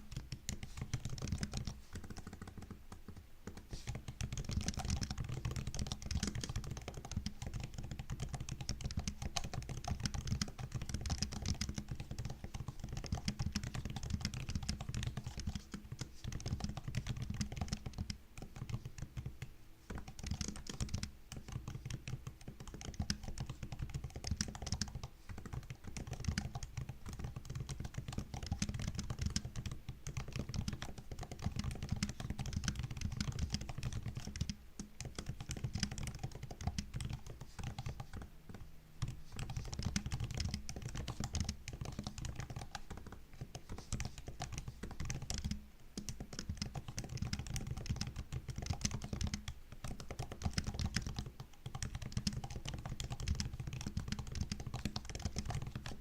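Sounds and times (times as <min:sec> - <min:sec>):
fast typing on laptop keyboard: 0:00.0 - 0:56.0.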